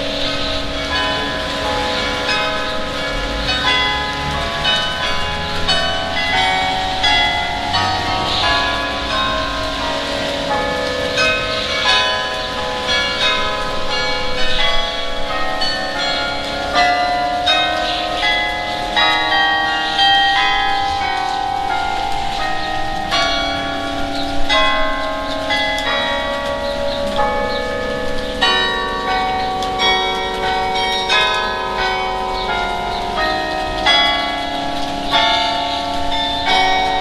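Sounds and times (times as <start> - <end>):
carillon bells playing a tune: 0.0 - 37.0.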